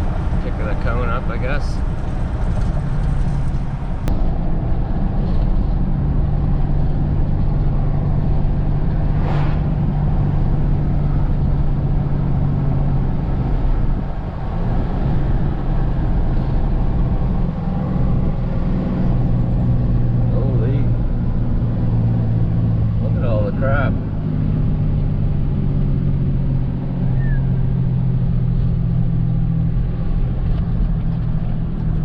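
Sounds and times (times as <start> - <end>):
road and tyre noise: 0.0 - 32.0
truck engine drone: 0.0 - 32.0.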